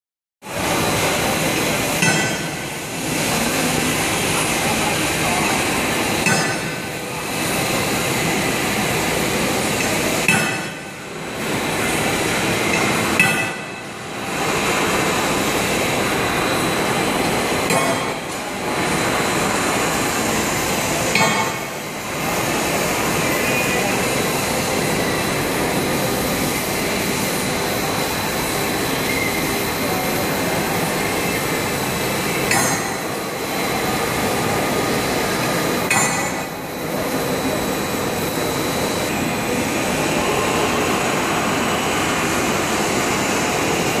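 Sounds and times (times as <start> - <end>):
machine running: 0.4 - 44.0.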